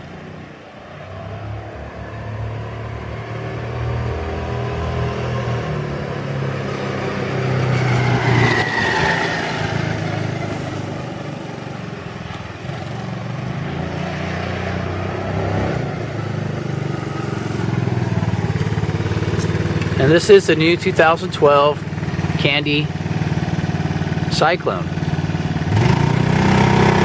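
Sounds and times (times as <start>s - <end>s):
trike engine running: 1.6s - 27.0s.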